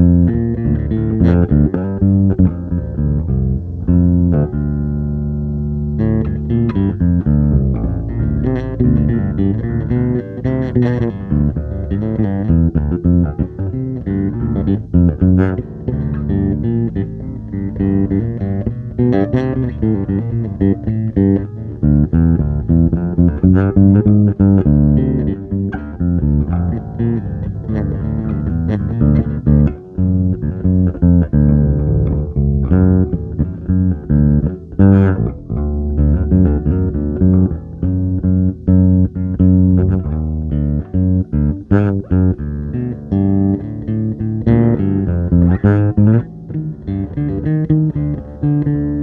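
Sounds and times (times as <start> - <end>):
plucked guitar noodling: 0.0 - 49.0.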